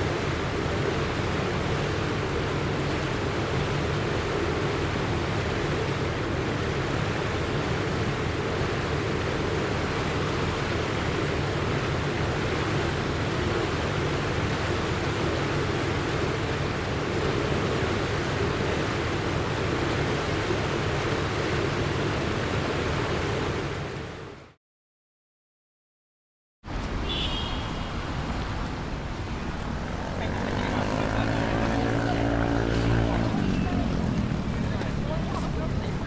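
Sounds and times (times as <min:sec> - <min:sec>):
floodwater rushing: 0:00.0 - 0:24.4, 0:26.8 - 0:36.0.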